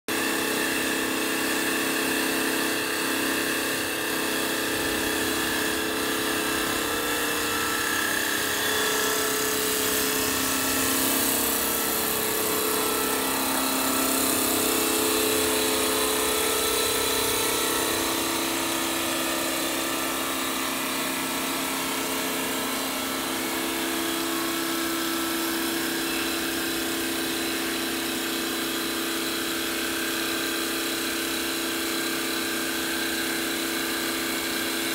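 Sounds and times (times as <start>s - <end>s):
lathe mechanical drone: 0.1s - 34.9s.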